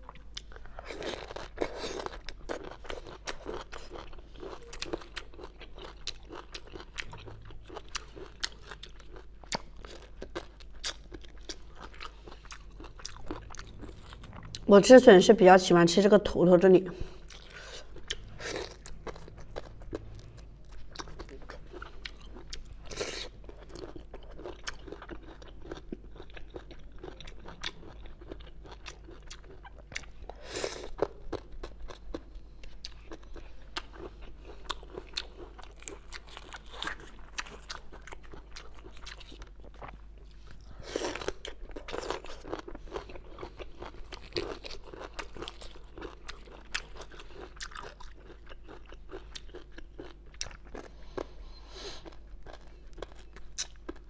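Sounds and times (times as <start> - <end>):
crunching and chewing bamboo: 0.0 - 14.6, 17.3 - 51.4.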